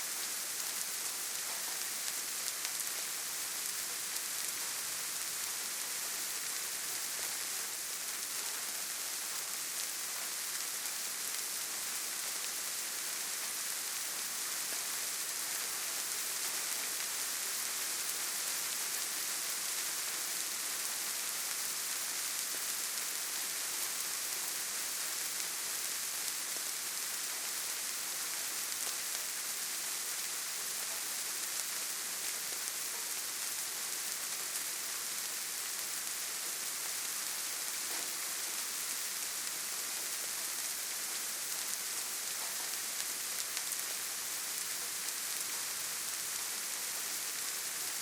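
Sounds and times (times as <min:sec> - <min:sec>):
gentle rain: 0:00.0 - 0:48.0.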